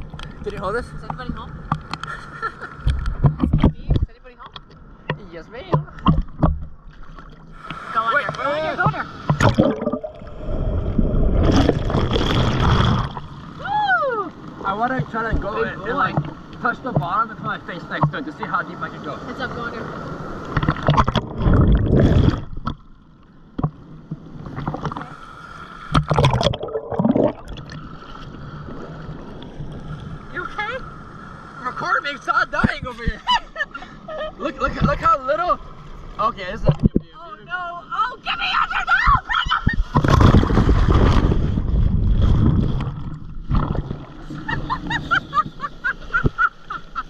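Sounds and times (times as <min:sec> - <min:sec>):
ocean waves breaking and splashing: 0:00.0 - 0:47.0
water rushing and churning: 0:02.8 - 0:47.0.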